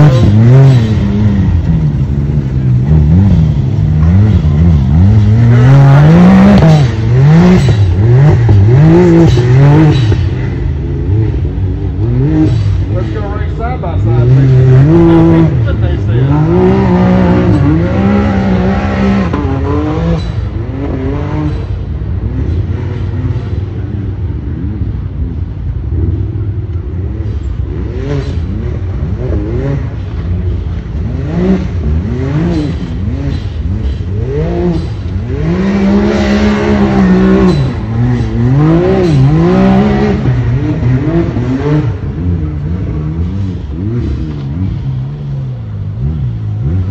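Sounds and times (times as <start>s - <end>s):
utility vehicle engine revving: 0.0s - 46.9s.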